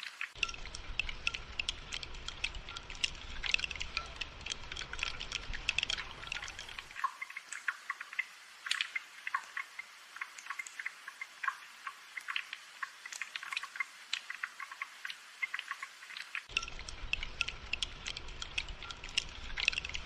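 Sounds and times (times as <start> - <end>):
light rain hiss: 0.0 - 20.0
water drops plinking: 0.2 - 20.0.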